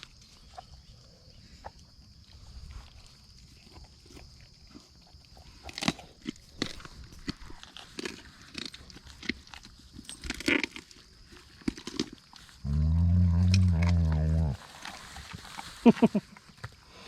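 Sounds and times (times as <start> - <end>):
dogs chewing and crunching: 1.5 - 16.8.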